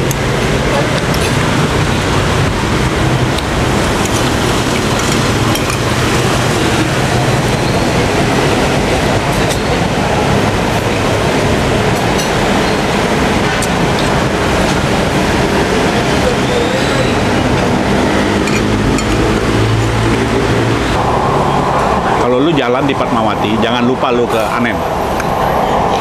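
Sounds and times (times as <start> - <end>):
loud road traffic rumble: 0.0 - 26.0.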